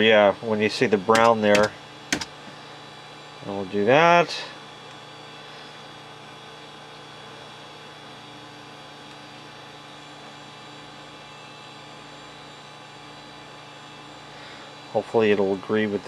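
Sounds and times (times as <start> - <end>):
computer equipment whir: 0.0 - 16.0
electrical hum: 0.0 - 16.0.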